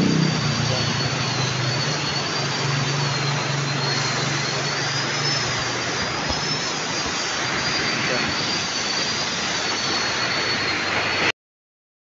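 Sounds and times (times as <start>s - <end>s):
low steady hum: 0.0s - 10.8s
heavy rain downpour: 0.0s - 11.3s.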